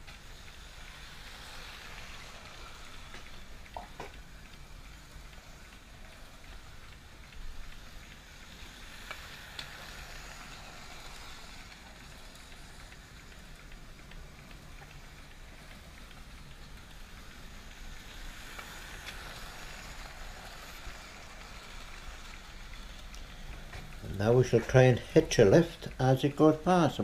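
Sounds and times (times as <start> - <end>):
model train motor whirring: 0.0 - 27.0
wheels rolling on rails: 0.0 - 27.0.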